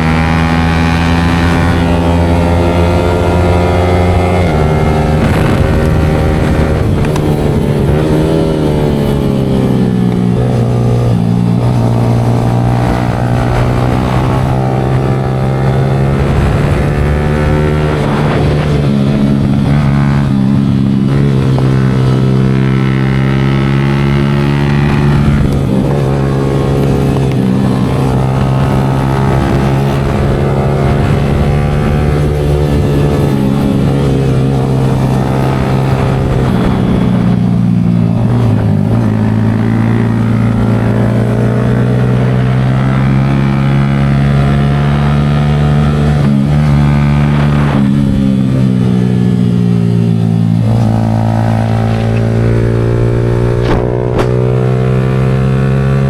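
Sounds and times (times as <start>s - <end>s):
motorcycle engine revving while riding: 0.0s - 56.0s.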